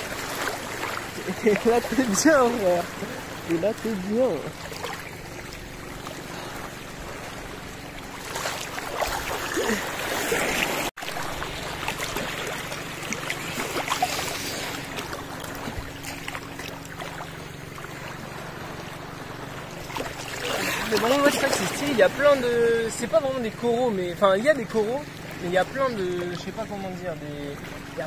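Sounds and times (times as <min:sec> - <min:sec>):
small waves washing in: 0:00.0 - 0:28.0.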